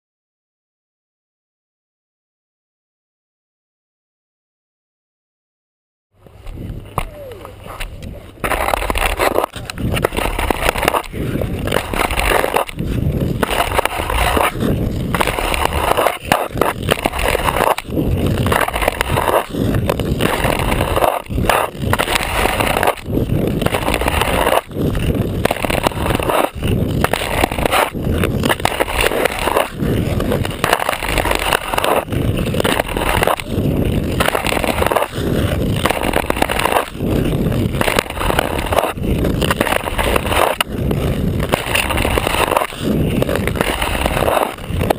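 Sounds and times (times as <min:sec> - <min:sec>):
ice skate blade scraping ice: 0:06.2 - 0:44.9.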